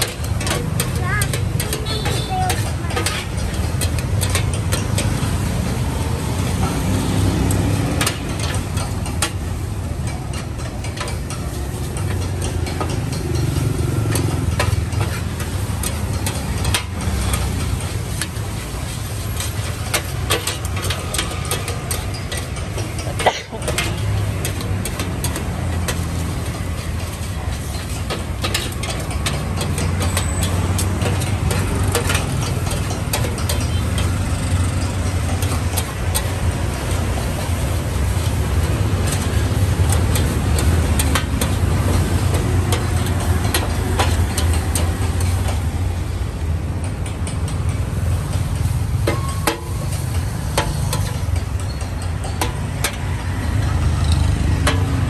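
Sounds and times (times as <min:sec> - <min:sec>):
metal spatula scraping wok: 0:00.0 - 0:55.0
motorbike and vehicle traffic: 0:00.0 - 0:55.0.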